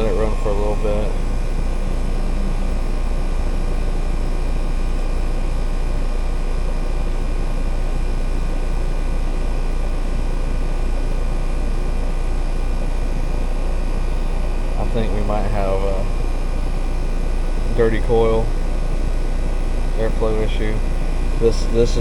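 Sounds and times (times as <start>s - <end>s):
air conditioner unit droning: 0.0s - 22.0s.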